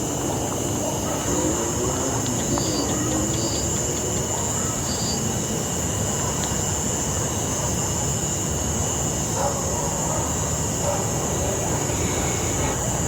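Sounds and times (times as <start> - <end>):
shrill insect drone: 0.0 - 13.0.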